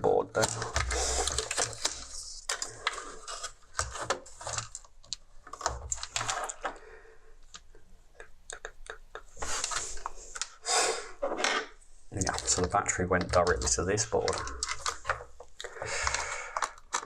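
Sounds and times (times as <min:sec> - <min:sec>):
plastic parts clicking and clattering: 0:00.0 - 0:06.8, 0:09.4 - 0:10.6, 0:11.2 - 0:17.0.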